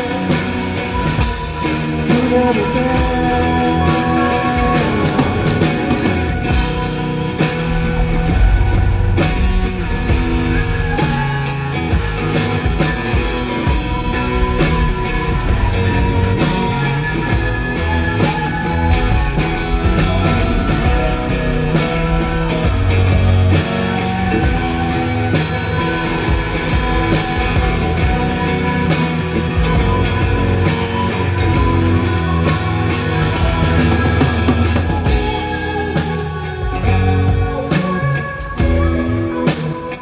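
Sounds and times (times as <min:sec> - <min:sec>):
bass guitar: 0:00.0 - 0:40.0
drum kit beat: 0:00.0 - 0:40.0
electric guitar: 0:00.0 - 0:40.0.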